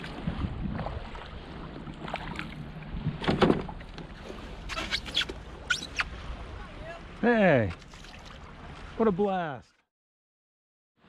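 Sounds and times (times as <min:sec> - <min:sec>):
paddle strokes splashing water: 0:00.0 - 0:09.4
wind and water wash: 0:00.0 - 0:09.7.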